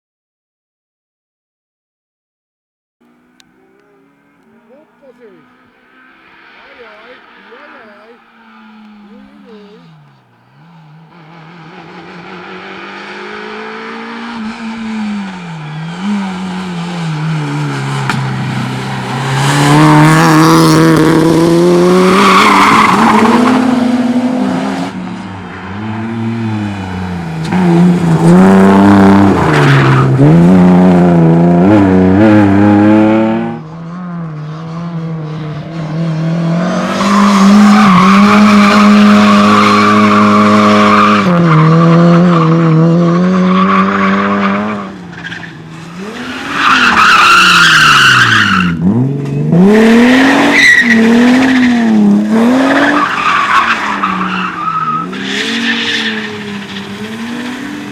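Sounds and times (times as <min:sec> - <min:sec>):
rally car engine revving: 0:03.0 - 0:57.9.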